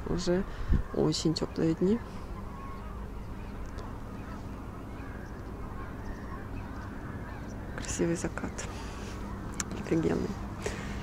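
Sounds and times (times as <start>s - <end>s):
gulls calling: 0.0s - 11.0s
low background rumble: 0.0s - 11.0s.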